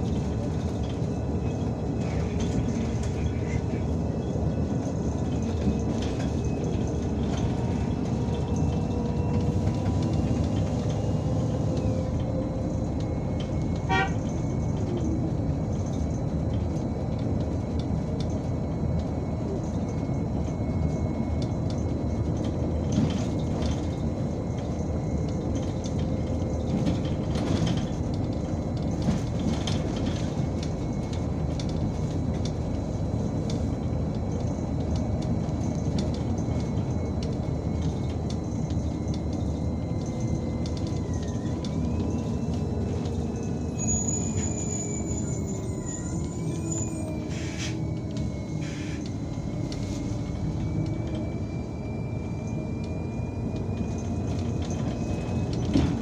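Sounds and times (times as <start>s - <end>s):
bus engine rumble and road noise: 0.0s - 56.0s.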